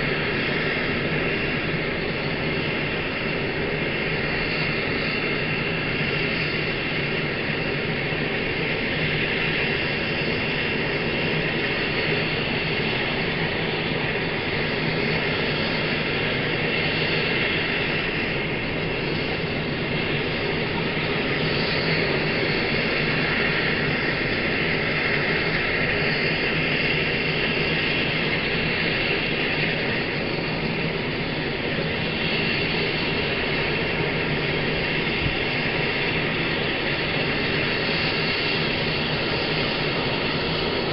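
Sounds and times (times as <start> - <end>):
helicopter rotor noise: 0.0 - 40.9
helicopter turbine whine: 0.0 - 40.9.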